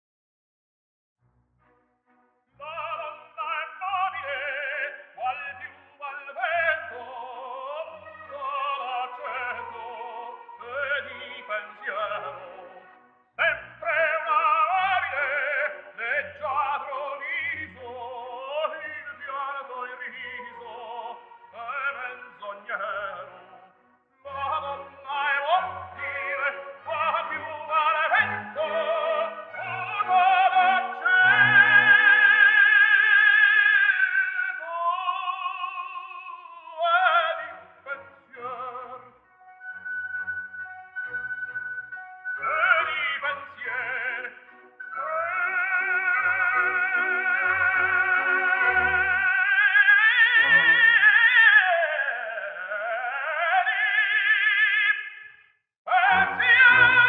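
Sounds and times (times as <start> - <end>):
operatic singing with vibrato: 2.6 - 57.0.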